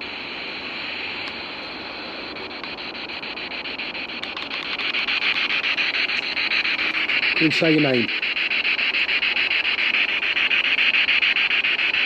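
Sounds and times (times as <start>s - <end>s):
radio static hissing: 0.0s - 12.0s
rapid even clicks: 1.2s - 12.0s.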